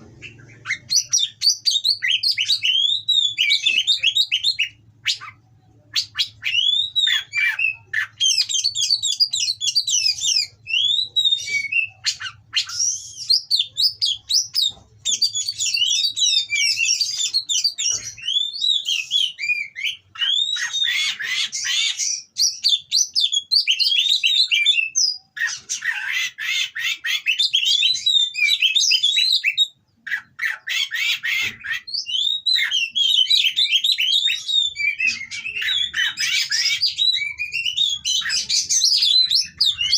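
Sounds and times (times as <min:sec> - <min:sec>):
bird singing whistled phrases: 0:00.0 - 0:25.6, 0:26.5 - 0:29.8, 0:30.8 - 0:39.9
harsh rasping bird calls: 0:00.0 - 0:39.9.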